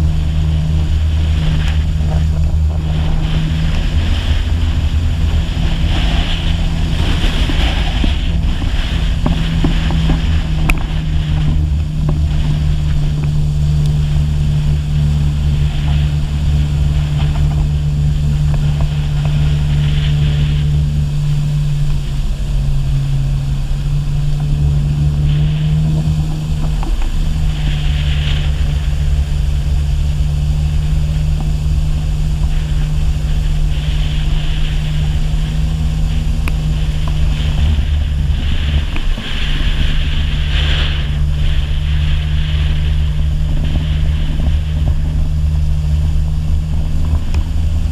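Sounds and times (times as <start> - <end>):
personal watercraft engine running: 0.0 - 47.9
water rushing and spraying: 0.0 - 47.9.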